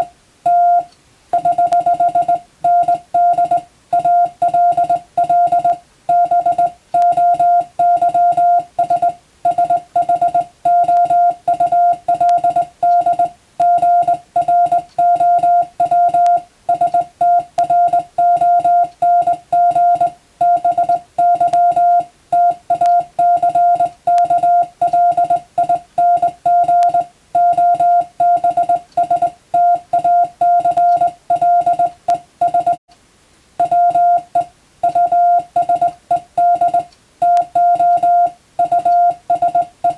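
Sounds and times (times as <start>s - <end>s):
morse code beeps: 0.0s - 32.8s, 33.6s - 39.9s.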